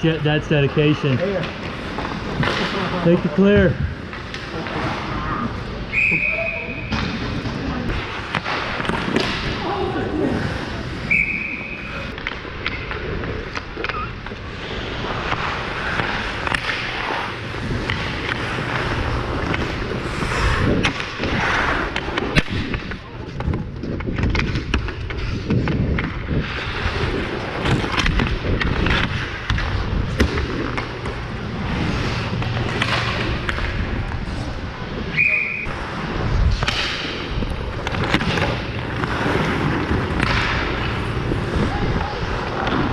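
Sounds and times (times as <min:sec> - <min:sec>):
hockey sticks and puck clacking: 0:00.0 - 0:42.9
skates scraping on ice: 0:00.0 - 0:42.9.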